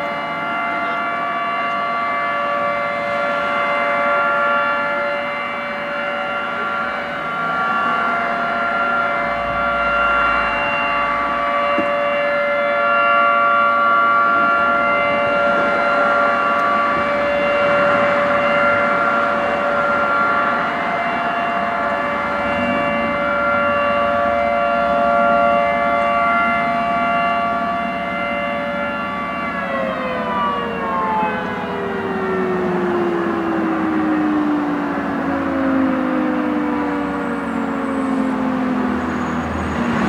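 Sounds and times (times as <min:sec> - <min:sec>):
two-tone warning siren: 0:00.0 - 0:40.0.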